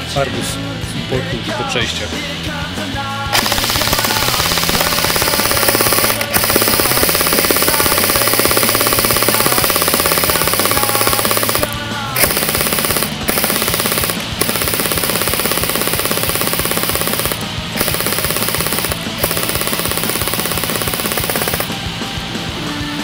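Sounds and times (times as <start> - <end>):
background music: 0.0 - 23.0
airsoft gun firing bursts: 3.3 - 21.8.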